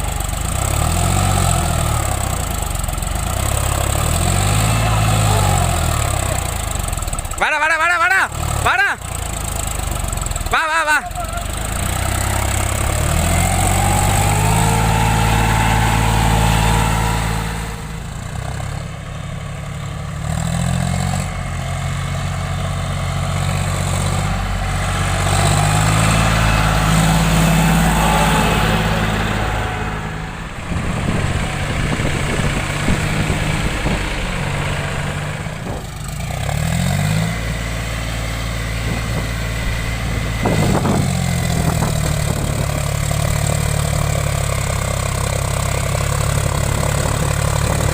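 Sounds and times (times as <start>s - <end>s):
tractor diesel engine revving: 0.0s - 47.9s.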